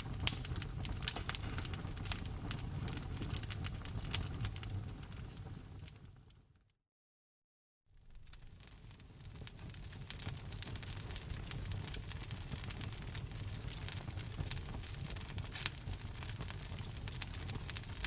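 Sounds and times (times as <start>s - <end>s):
wood fire crackling: 0.0s - 6.4s, 8.0s - 18.0s.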